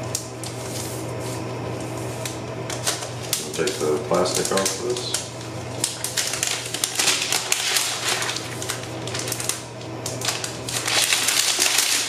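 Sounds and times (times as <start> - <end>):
plastic sleeve crinkling: 2.0 - 12.0.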